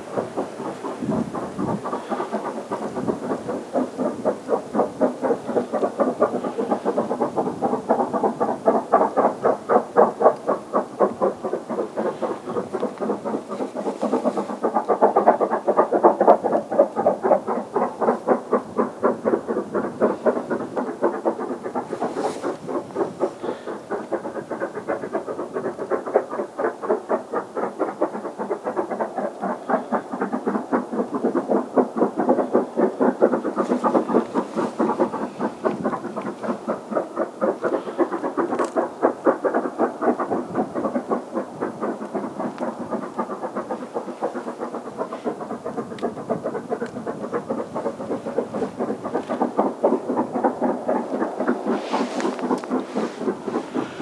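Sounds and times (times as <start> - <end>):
steam locomotive exhaust beating: 0.0 - 54.0.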